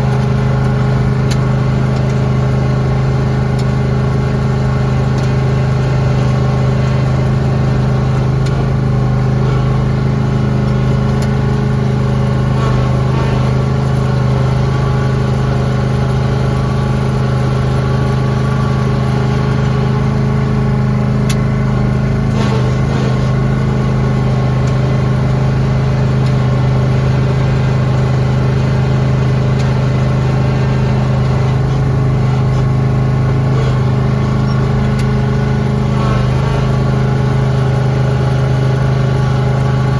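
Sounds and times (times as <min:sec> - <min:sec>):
lawn tractor engine drone: 0:00.0 - 0:39.9.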